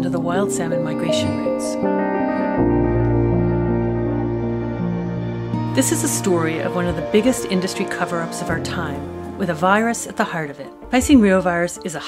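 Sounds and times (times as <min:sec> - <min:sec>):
ambient music with sustained chords: 0:00.0 - 0:12.0.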